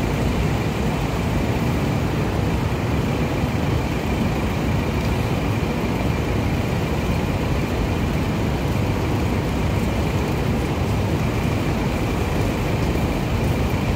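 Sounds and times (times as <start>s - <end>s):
city traffic rumble: 0.0s - 13.9s.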